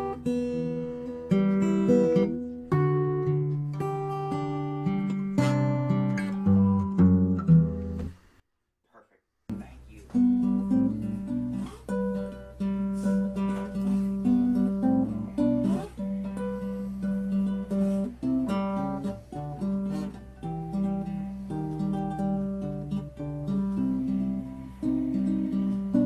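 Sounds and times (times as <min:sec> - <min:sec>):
fingerpicked classical guitar: 0:00.0 - 0:08.2, 0:09.5 - 0:26.0.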